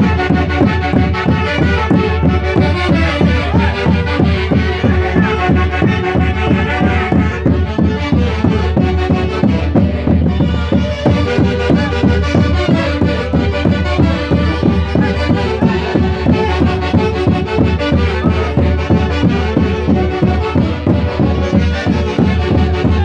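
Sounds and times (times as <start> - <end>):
band music with quick steady beat: 0.0 - 23.0.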